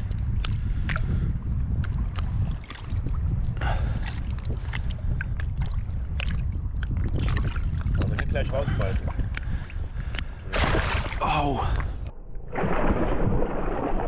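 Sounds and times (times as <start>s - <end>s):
low wind rumble on microphone: 0.0s - 14.0s
water splashing and sloshing: 0.0s - 14.0s.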